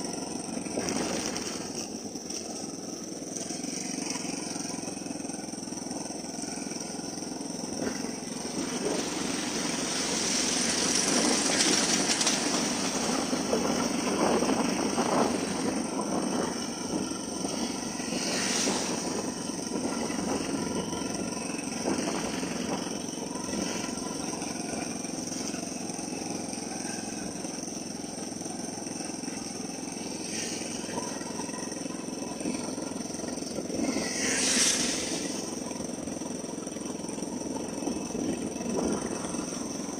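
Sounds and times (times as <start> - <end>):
motorcycle passing loudly: 0.0 - 2.6, 3.4 - 39.9
motorcycle engine running: 0.0 - 39.9
road noise: 0.0 - 39.9
vehicles passing: 0.0 - 39.9.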